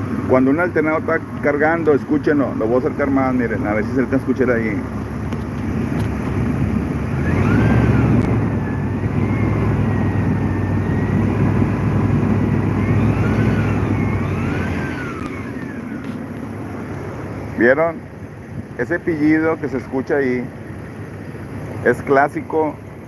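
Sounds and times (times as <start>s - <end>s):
engine running: 0.0s - 23.0s
high alternator whine: 0.0s - 23.0s.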